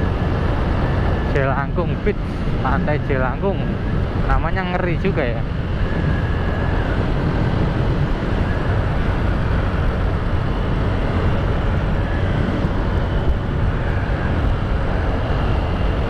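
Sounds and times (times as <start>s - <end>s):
wind over microphone: 0.0s - 16.0s.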